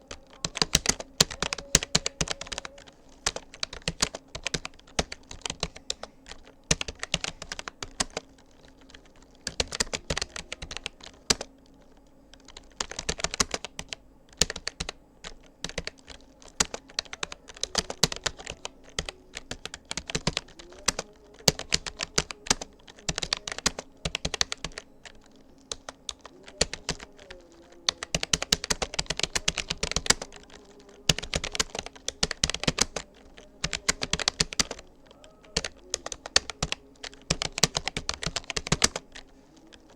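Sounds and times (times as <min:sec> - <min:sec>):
computer keyboard key clicks: 0:00.1 - 0:39.8.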